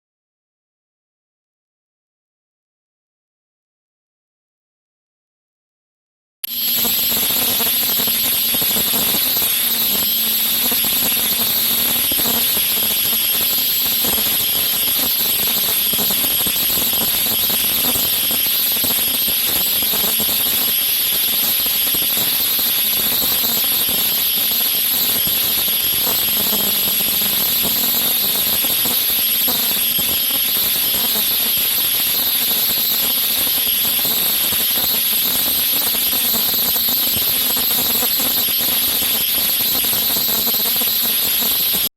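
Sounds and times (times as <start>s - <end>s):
high-pitched ultrasonic welder whine: 6.4s - 41.9s
machine noise: 6.5s - 41.9s.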